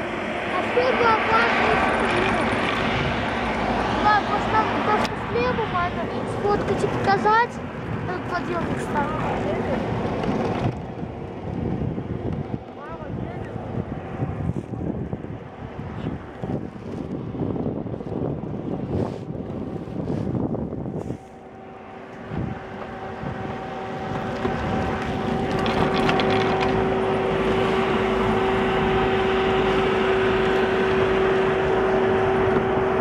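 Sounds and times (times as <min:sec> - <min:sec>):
steady mechanical hum: 0:00.0 - 0:33.0
wind buffeting microphone: 0:00.0 - 0:33.0.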